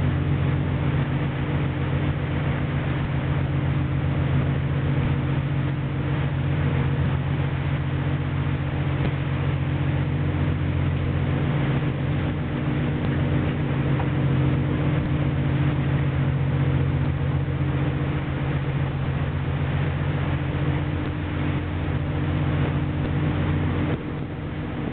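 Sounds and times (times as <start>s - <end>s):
boat engine droning: 0.0s - 24.9s
constant rushing hiss: 0.0s - 24.9s.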